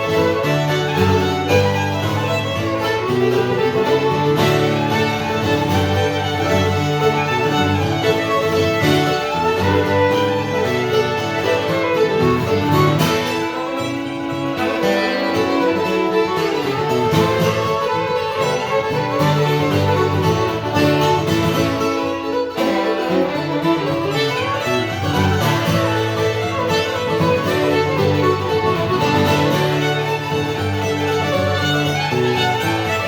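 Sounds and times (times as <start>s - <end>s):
fiddle tune with guitar: 0.0s - 33.0s.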